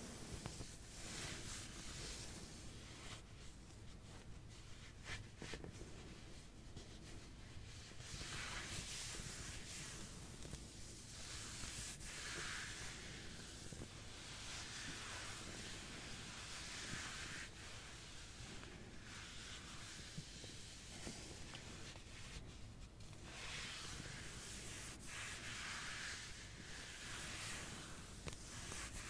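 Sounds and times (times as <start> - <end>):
soft scratching and rubbing: 0.0 - 29.0.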